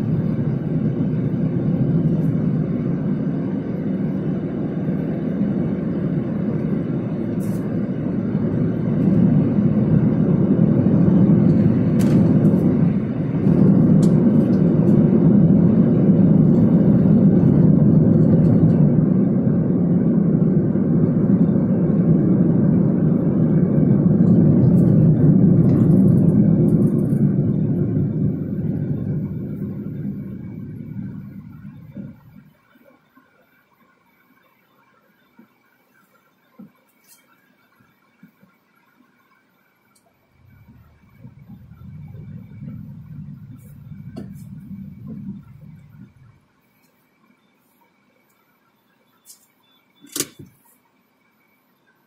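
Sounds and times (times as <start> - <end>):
car road and engine rumble: 0.0 - 32.8, 37.6 - 47.3.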